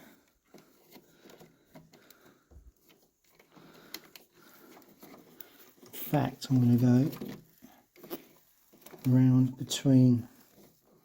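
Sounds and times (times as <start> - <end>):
wire handling clicks and rustling: 0.0 - 11.0.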